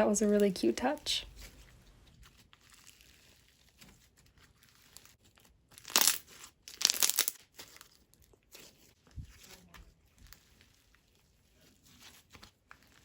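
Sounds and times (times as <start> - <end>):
hands squeezing crunchy slime: 2.2 - 13.0.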